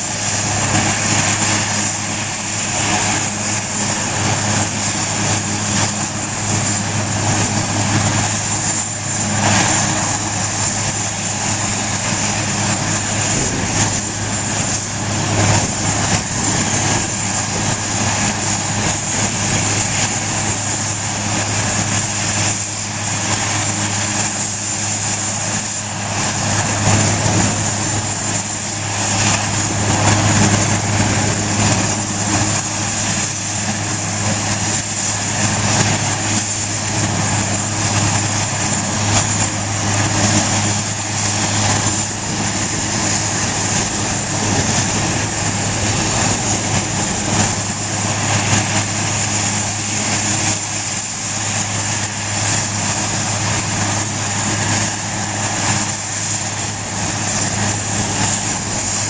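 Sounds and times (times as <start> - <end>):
helicopter rotor and engine noise: 0.0 - 59.0
helicopter turbine whine: 0.0 - 59.0.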